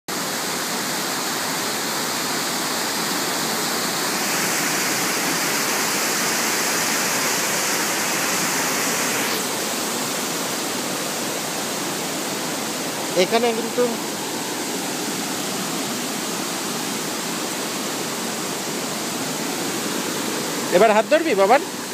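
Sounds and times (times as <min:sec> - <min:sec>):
whitewater rushing over boulders: 0:00.1 - 0:21.9.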